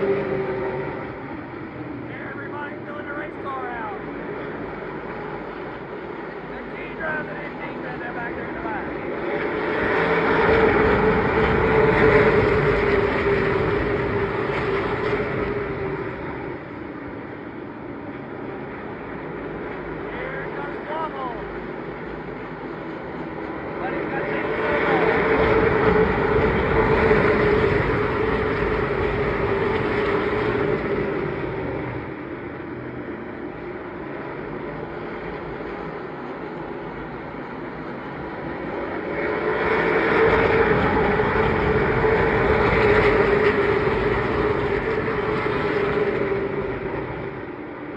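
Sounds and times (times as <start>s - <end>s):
stock cars racing past: 0.0s - 18.1s, 18.9s - 37.0s, 37.7s - 47.9s.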